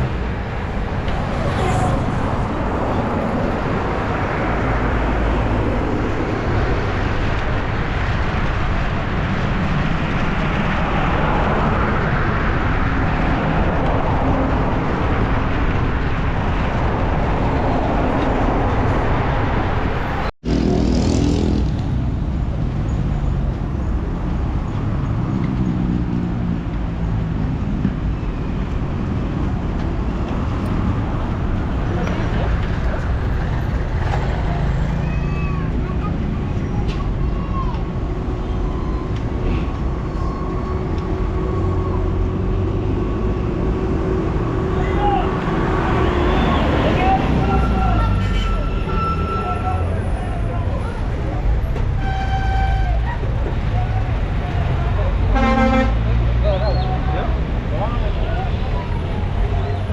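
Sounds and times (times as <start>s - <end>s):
road traffic noise: 0.0s - 59.9s.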